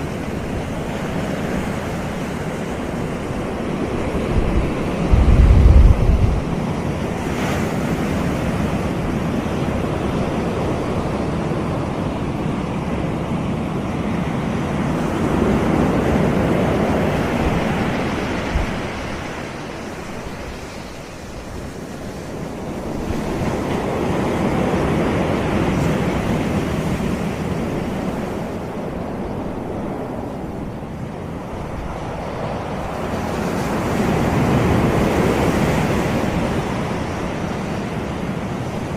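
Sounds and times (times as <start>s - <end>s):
ocean surf breaking: 0.0s - 38.9s
wind rumbling on microphone: 0.0s - 38.9s.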